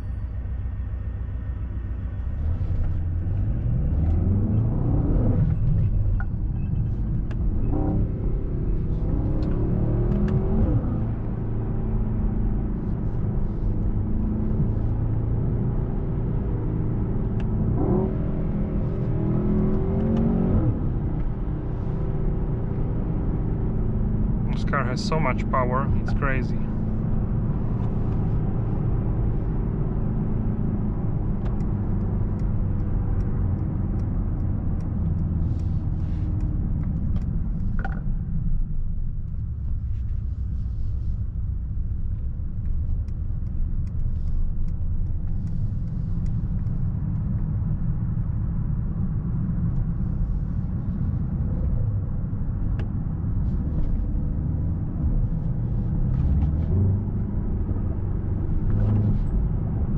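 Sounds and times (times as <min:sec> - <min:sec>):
car engine running: 0:00.0 - 0:59.9
tyre and road rumble: 0:02.1 - 0:59.9.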